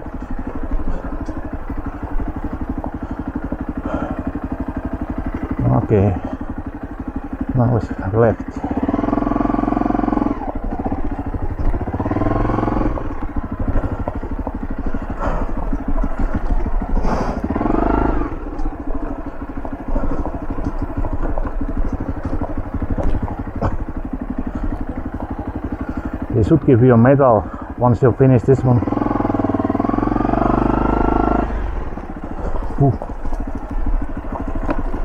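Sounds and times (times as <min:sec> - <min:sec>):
motorbike engine revving: 0:00.0 - 0:35.0.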